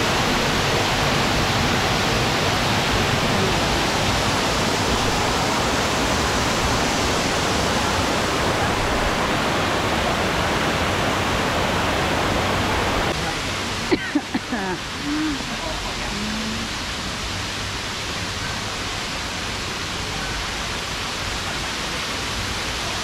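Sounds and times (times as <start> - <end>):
waterfall pouring into pond: 0.0 - 23.0.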